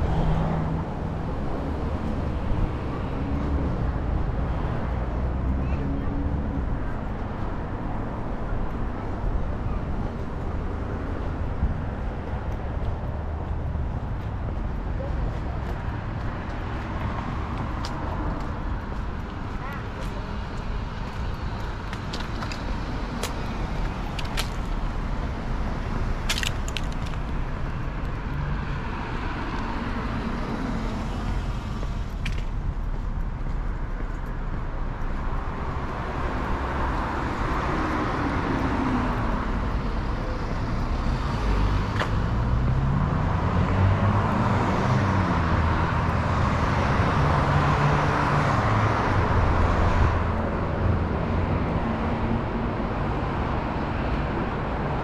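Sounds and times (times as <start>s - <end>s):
motor vehicles passing: 0.0s - 55.0s.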